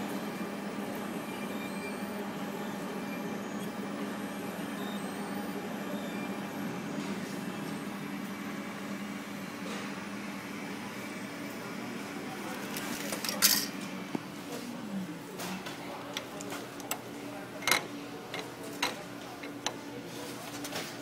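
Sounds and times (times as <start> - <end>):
laser engraver machine hum: 0.0 - 20.4.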